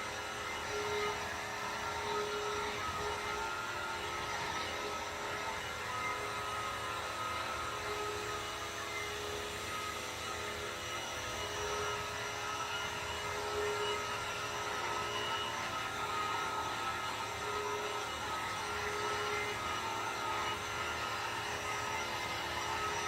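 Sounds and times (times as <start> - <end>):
vacuum cleaner motor running: 0.0 - 23.0.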